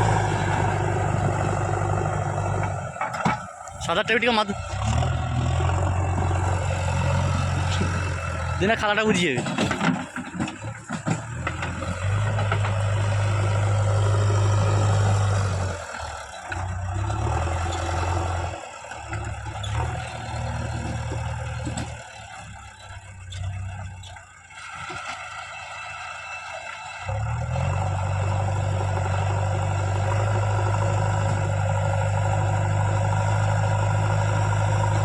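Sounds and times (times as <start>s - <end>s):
diesel engine under load: 0.0s - 35.0s.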